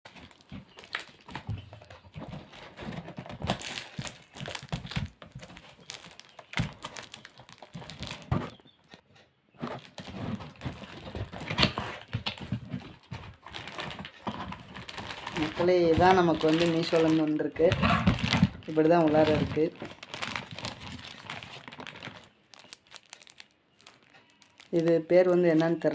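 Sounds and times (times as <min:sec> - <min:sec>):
plastic packaging crinkling and tearing: 0:00.1 - 0:08.7, 0:09.7 - 0:25.9.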